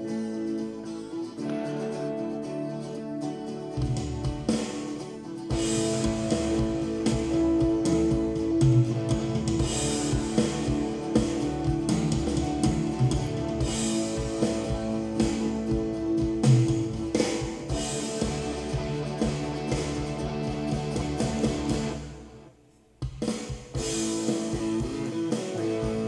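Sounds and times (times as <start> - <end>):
guitar: 0.0 - 26.0
drum kit: 3.6 - 26.0.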